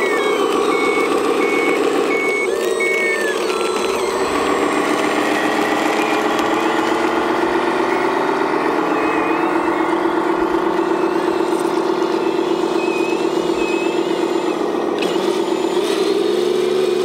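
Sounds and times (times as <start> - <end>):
reverse alarm beeps: 0.0 - 16.2
simulated diesel engine drone: 0.0 - 17.0.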